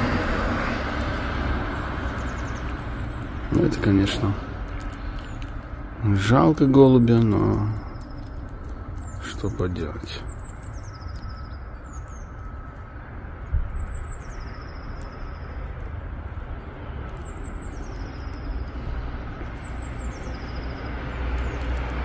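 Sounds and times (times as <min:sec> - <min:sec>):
road traffic rumble: 0:00.0 - 0:22.0
bird chirping: 0:02.0 - 0:15.9, 0:16.5 - 0:21.9.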